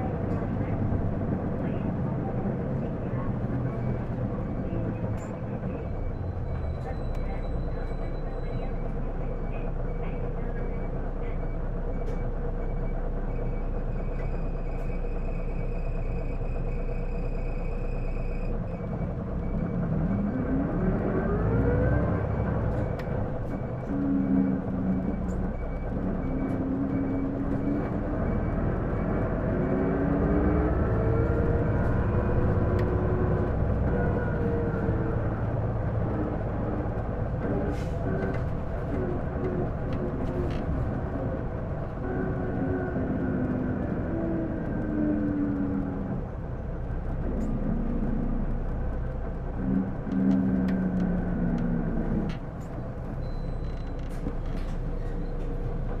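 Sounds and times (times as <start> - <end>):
bus diesel engine rumble: 0.0 - 56.0.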